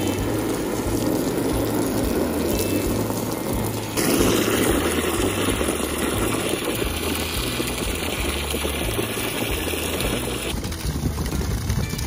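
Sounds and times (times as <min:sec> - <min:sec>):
muffled underwater rushing water: 0:00.0 - 0:11.3
background music with low bass: 0:00.0 - 0:12.0.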